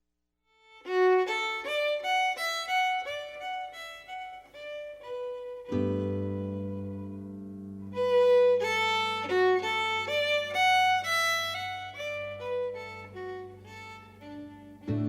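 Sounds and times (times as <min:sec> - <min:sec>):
fiddle melody: 0:00.6 - 0:15.0.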